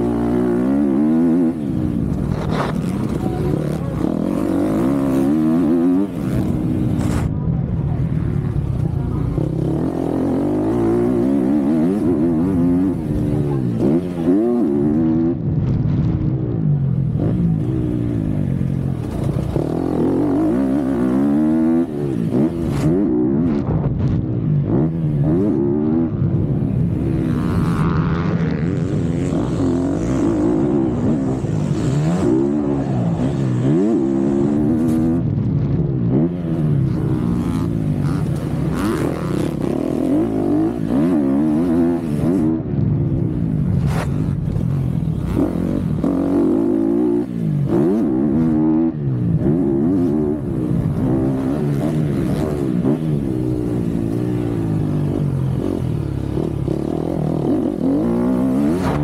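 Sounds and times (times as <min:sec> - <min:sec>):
motocross bike engine revving: 0:00.0 - 0:07.3, 0:09.3 - 0:15.5, 0:17.1 - 0:23.7, 0:24.6 - 0:35.3, 0:36.0 - 0:42.7, 0:43.8 - 0:59.0.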